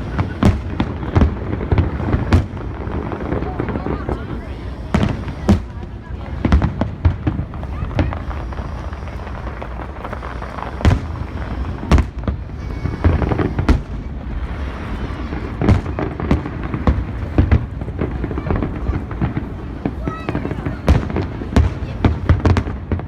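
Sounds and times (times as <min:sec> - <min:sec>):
continuous background noise: 0:00.0 - 0:23.0
fireworks bursting in sharp bangs: 0:00.0 - 0:23.0.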